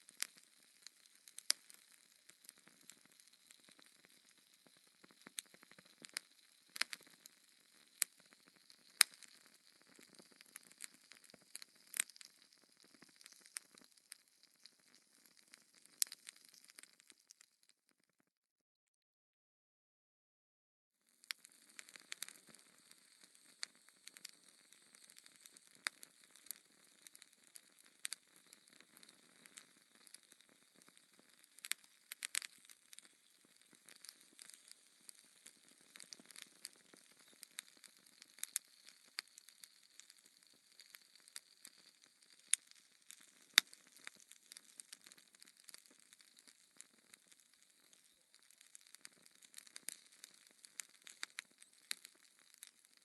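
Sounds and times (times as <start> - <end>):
wood fire crackling: 0.0 - 17.6, 21.2 - 53.0.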